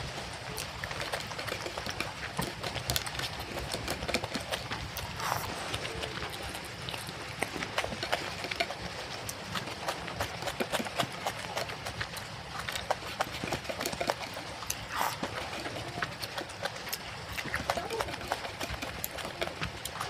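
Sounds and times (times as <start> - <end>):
chewing and mouth noises: 0.0 - 20.0
fingers mixing food on plate: 0.5 - 20.0.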